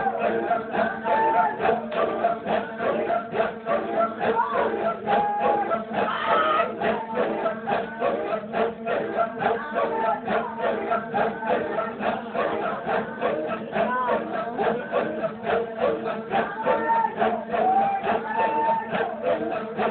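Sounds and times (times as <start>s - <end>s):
group chanting in pulsing rhythm: 0.0s - 19.9s.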